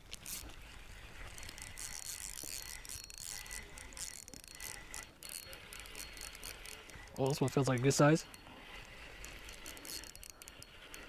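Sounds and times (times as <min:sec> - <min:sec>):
fishing reel whirring: 0:00.0 - 0:11.0.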